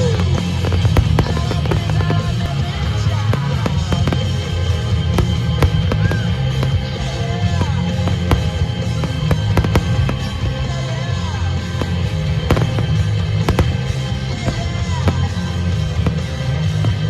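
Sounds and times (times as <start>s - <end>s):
fireworks bangs and crackles: 0.0s - 17.0s
loud music with heavy bass: 0.0s - 17.0s.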